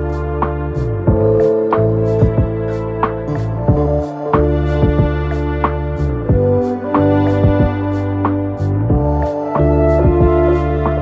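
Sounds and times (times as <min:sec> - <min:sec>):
repeated bass strokes: 0:00.0 - 0:11.0.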